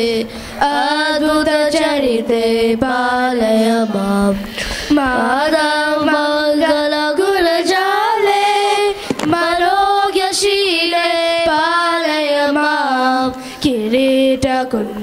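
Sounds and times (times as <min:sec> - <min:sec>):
girl singing a hymn: 0:00.0 - 0:15.0.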